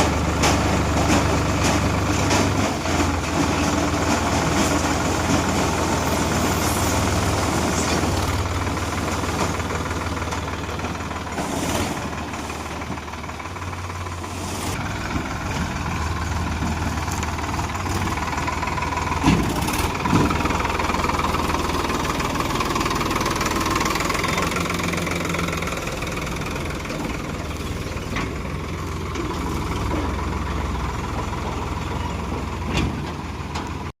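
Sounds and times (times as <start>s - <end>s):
heavy diesel engine running: 0.0s - 33.9s.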